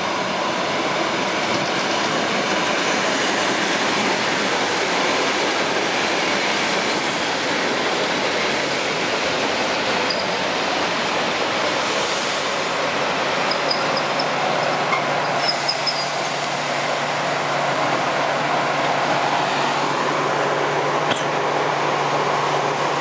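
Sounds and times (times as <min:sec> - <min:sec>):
train wheels rolling on rails: 0:00.0 - 0:23.0.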